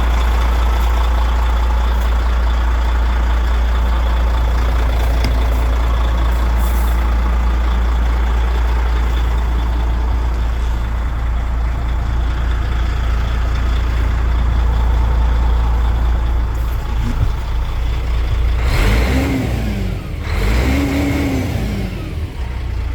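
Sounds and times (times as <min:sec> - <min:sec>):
truck diesel engine running and revving: 0:00.0 - 0:22.9.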